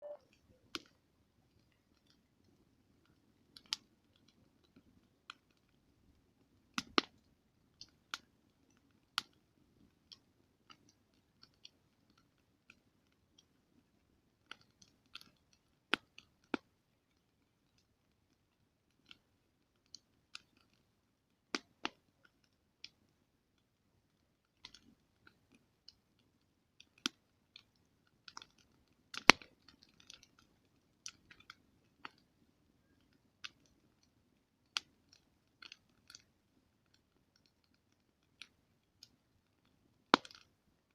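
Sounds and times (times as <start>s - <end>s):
campfire crackling and popping: 0.0s - 40.9s
low rumble of burning: 0.2s - 40.9s.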